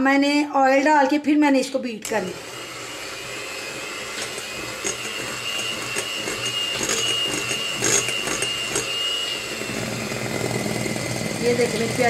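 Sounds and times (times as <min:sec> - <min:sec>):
electric hand mixer whining: 0:01.8 - 0:12.0.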